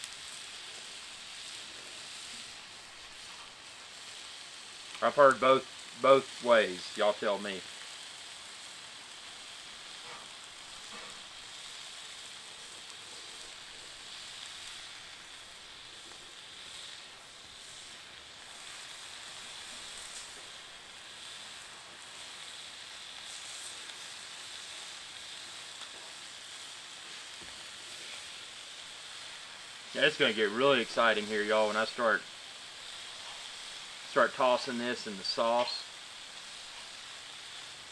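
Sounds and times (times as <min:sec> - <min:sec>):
steak sizzling on griddle: 0:00.0 - 0:37.9.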